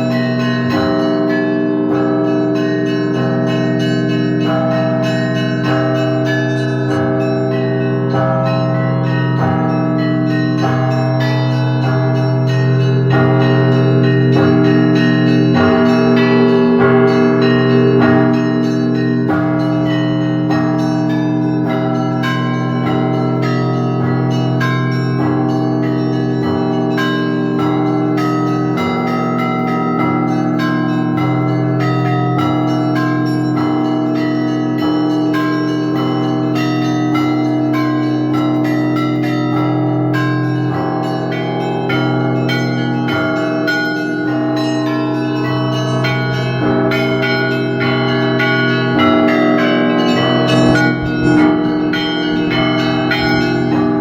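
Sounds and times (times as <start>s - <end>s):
hum of large bells: 0.0s - 54.0s
small bells chiming quickly: 2.2s - 54.0s.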